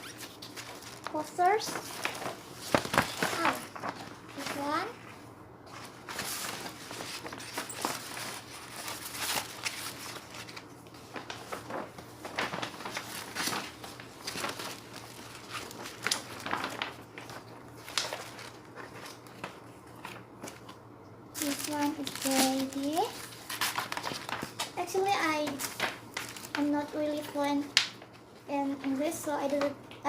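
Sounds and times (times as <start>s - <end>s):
paper posters rustling: 0.0s - 20.8s, 21.4s - 30.0s.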